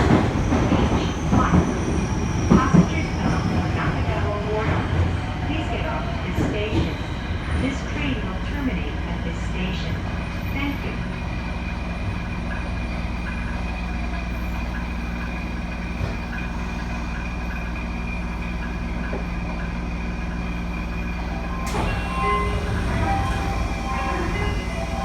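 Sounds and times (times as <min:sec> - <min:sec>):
subway car hum and rumble: 0:00.0 - 0:25.0.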